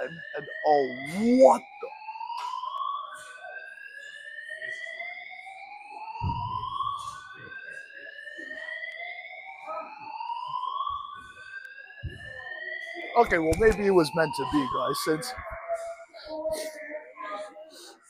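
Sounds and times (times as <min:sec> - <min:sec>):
fire alarm whooping: 0:00.0 - 0:17.8.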